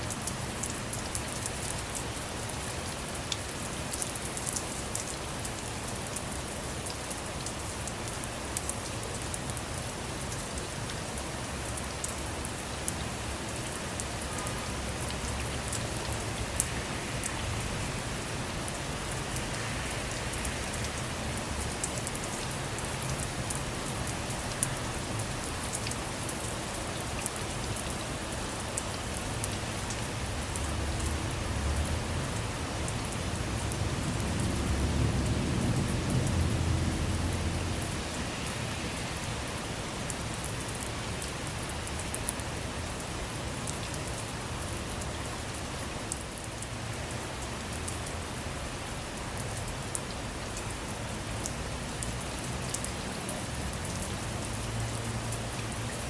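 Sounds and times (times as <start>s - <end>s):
rain falling on a car: 0.0s - 56.0s.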